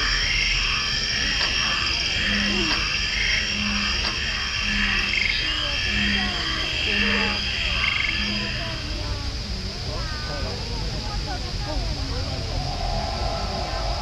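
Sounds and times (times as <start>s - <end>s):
background hiss: 0.0s - 14.0s
faint voices: 0.0s - 14.0s
frogs croaking: 0.0s - 14.0s.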